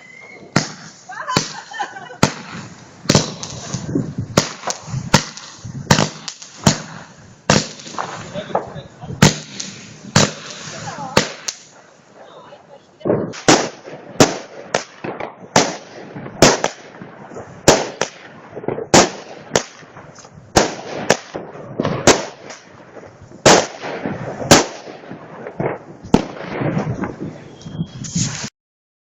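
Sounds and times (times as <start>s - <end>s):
firework battery bangs: 0.0s - 28.5s
firework crackle: 0.0s - 28.5s.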